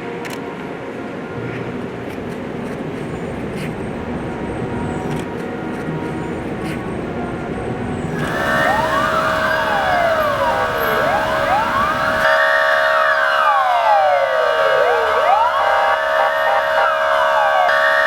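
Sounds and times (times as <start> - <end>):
fire engine sirens wailing: 3.1 - 18.0.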